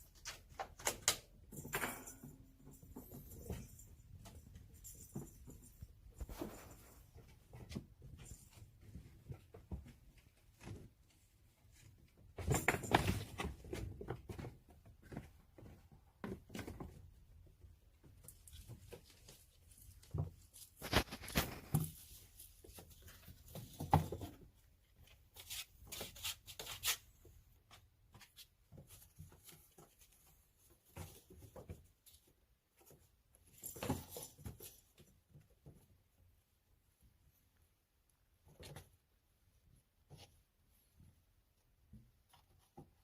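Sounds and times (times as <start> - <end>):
kittens scratching and rustling: 2.3 - 43.0.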